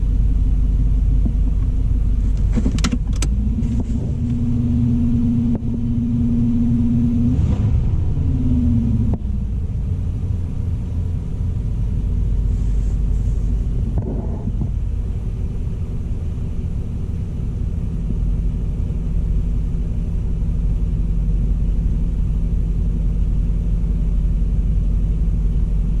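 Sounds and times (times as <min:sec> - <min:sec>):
car engine idling: 0:00.0 - 0:26.0
steady hum: 0:00.0 - 0:26.0.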